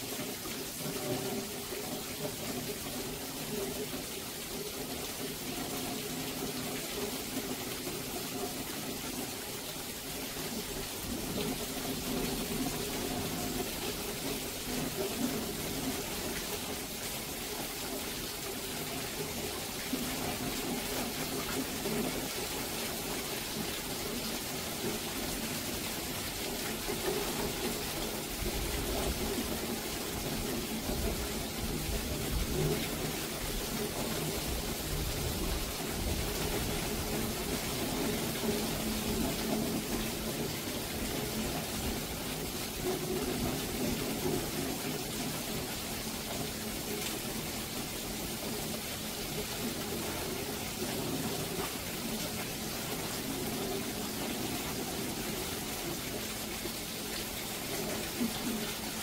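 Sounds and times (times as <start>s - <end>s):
heavy rain falling: 0.0s - 59.0s
water pouring and splashing: 0.0s - 59.0s.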